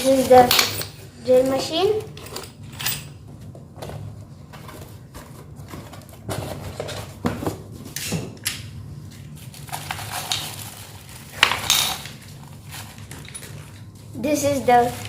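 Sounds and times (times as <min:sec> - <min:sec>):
rustling and clattering of handling: 0:00.0 - 0:08.4, 0:09.1 - 0:15.0
steady low hum: 0:00.0 - 0:15.0.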